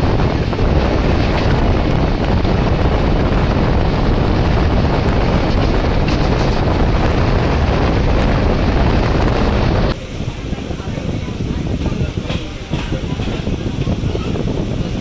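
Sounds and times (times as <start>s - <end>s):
electric train running: 0.0s - 15.0s
wind buffeting microphone: 0.0s - 15.0s.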